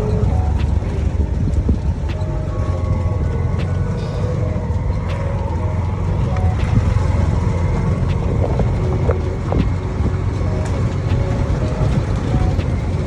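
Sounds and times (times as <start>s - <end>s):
vehicle engine rumbling: 0.0s - 13.0s
wind buffeting microphone: 0.0s - 13.0s.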